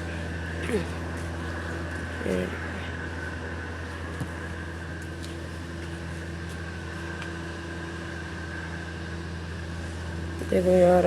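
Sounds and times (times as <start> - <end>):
machine hum with high whine: 0.0 - 11.0.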